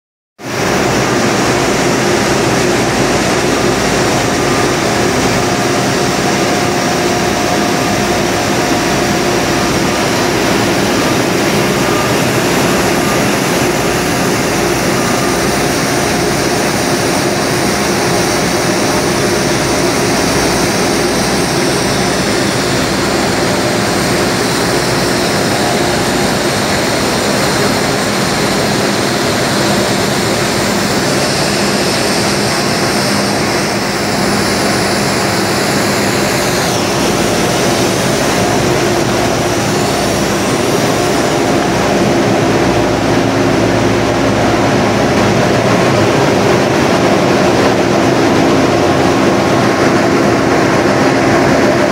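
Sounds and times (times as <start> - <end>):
constant machine hum: 0.4 - 51.9
loud steady machine din: 0.4 - 51.9.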